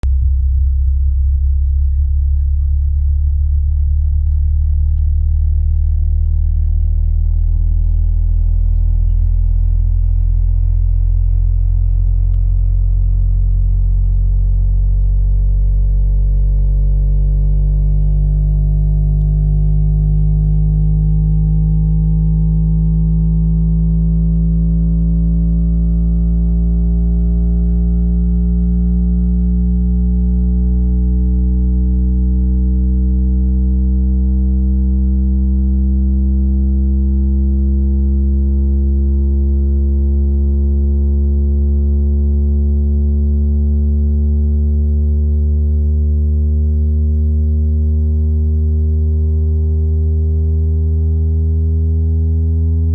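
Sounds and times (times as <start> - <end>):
rising low test tone: 0.0 - 52.9.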